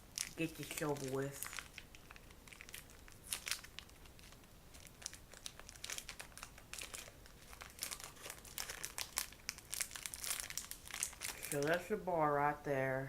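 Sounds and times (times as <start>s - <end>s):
plastic wrapper tearing and crinkling: 0.1s - 11.9s.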